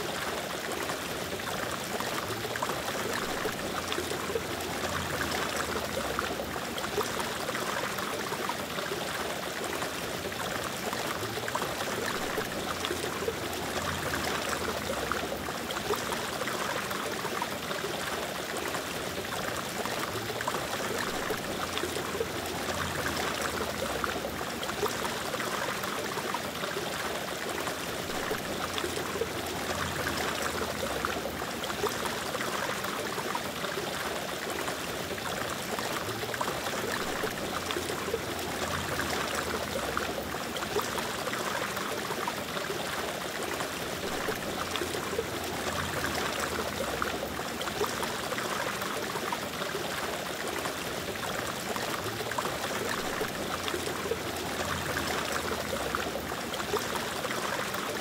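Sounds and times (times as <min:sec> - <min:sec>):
aquarium water trickling and bubbling: 0:00.0 - 0:58.0.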